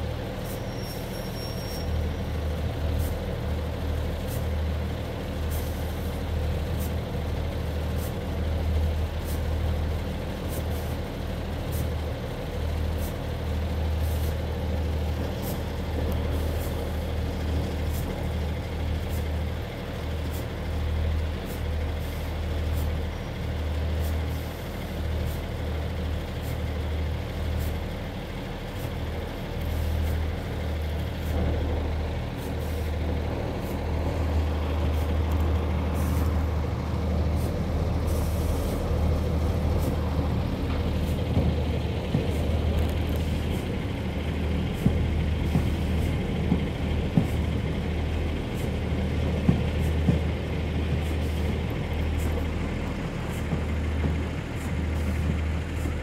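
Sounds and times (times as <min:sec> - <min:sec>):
diesel railcar engine drone: 0:00.0 - 0:56.0.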